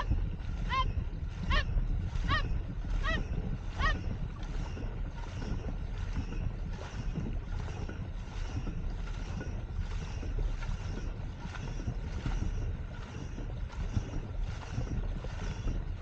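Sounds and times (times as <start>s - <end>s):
paddles striking water: 0.0s - 16.0s
wind rumble on microphone: 0.0s - 16.0s.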